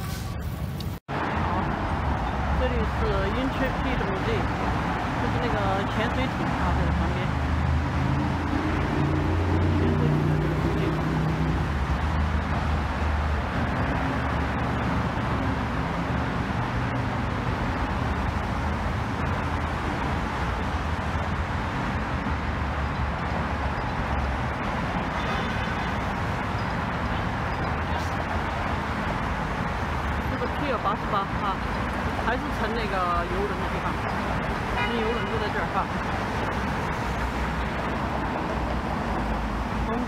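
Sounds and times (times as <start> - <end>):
steady highway traffic: 0.0 - 40.0
passing vehicle engine: 1.1 - 40.0.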